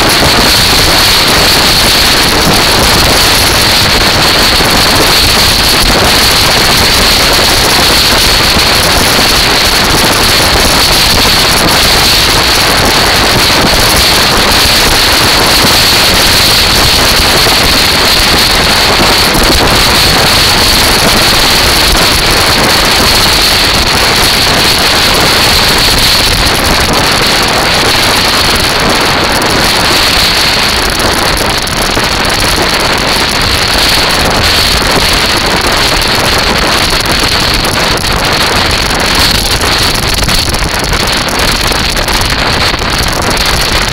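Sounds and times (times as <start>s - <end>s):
wheels rolling over shingle: 0.0s - 43.9s
wind buffeting microphone: 0.0s - 43.9s.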